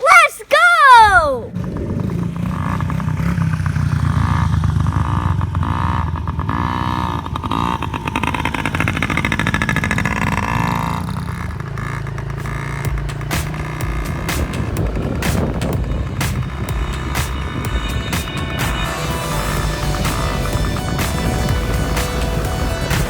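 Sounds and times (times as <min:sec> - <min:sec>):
dirt bike engine revving: 0:01.5 - 0:23.0.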